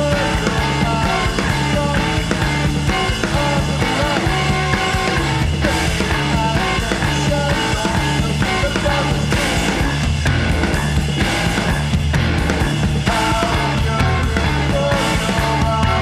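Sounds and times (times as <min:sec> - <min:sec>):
loud noise pop rock song: 0:00.0 - 0:16.0.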